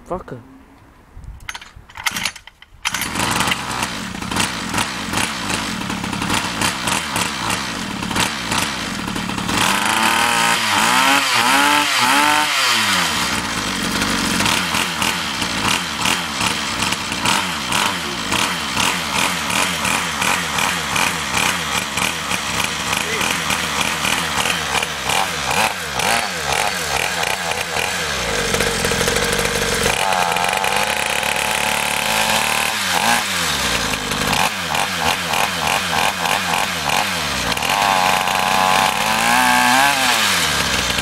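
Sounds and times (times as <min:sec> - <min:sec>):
dirt bike engine revving: 0:02.9 - 0:41.0.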